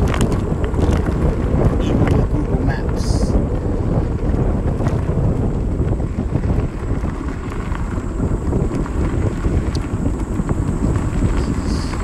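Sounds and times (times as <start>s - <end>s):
tyres ticking on gravel: 0.0s - 12.0s
wind buffeting microphone: 0.0s - 12.0s.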